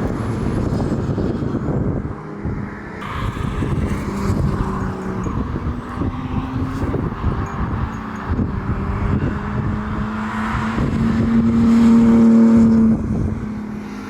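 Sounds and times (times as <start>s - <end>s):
wind and road rush: 0.0s - 14.0s.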